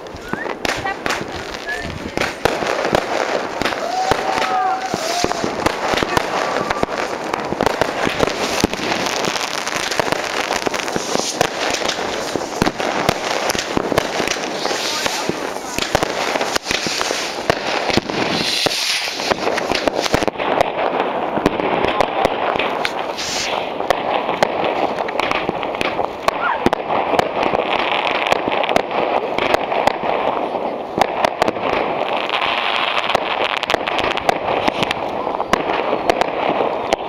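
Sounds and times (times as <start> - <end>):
fireworks rockets bursting: 0.0 - 37.0.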